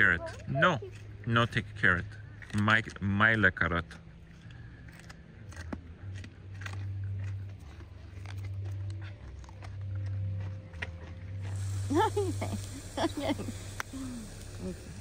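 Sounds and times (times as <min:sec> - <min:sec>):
deer chewing carrot crunching: 0:00.0 - 0:15.0.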